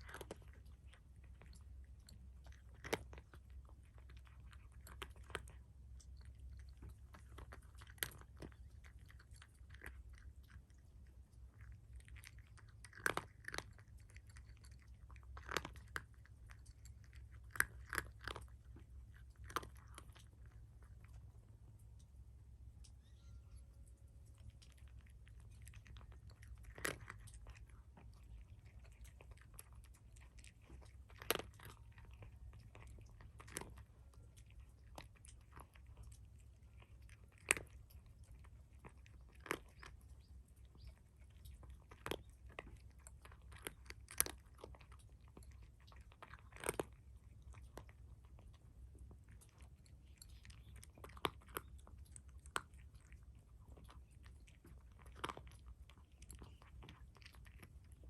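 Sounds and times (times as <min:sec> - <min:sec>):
cat chewing food crunches: 0:00.0 - 0:23.0, 0:23.8 - 0:58.0.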